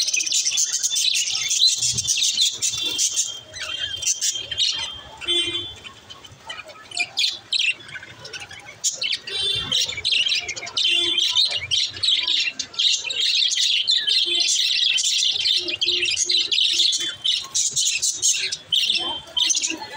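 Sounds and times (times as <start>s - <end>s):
budgerigars chirping and chattering: 0.0s - 19.9s.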